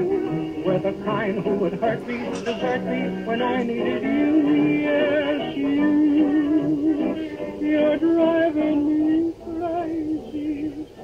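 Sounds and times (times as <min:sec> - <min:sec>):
old-time song from thin speaker: 0:00.0 - 0:11.0.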